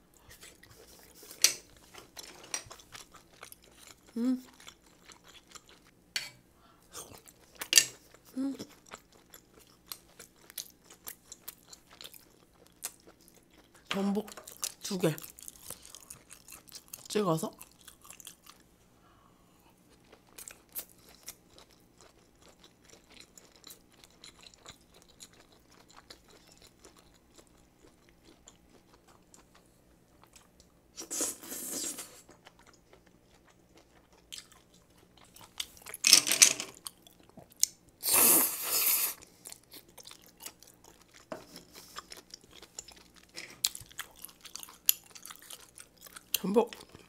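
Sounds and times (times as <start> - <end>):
chewing with wet mouth clicks: 0.3 - 6.0, 7.0 - 18.6, 19.9 - 29.6, 32.3 - 36.0, 36.8 - 37.8, 39.3 - 47.0.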